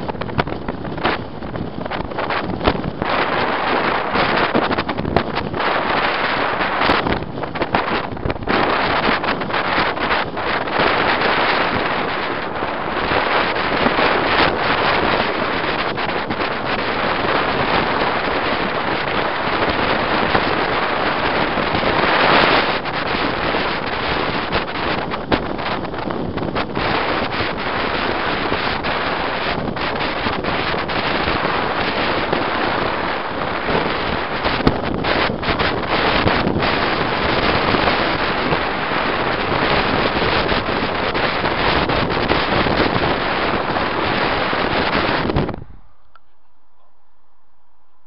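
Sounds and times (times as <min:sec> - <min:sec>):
moving vehicle road noise: 0:00.0 - 0:48.0
wind buffeting microphone: 0:00.0 - 0:48.0
wind rush: 0:00.0 - 0:48.0.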